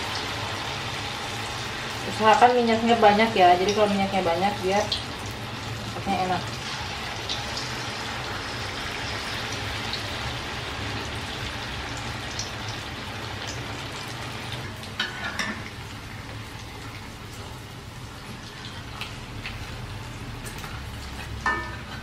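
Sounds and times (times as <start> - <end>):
batter sizzling in hot oil: 0.0 - 22.0.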